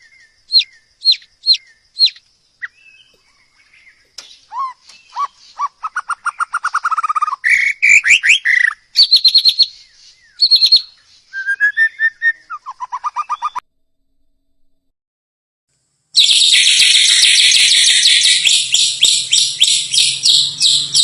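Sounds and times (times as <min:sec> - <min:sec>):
songbird singing whistled notes: 0:00.0 - 0:13.6, 0:16.2 - 0:21.0.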